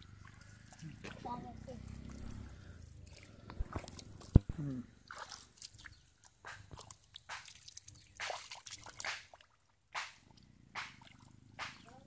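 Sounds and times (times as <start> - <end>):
hands squelching in wet mud: 0.0 - 12.0.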